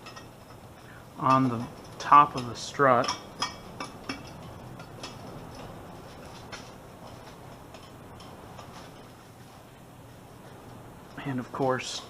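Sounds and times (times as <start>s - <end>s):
low background hiss: 0.0s - 12.0s.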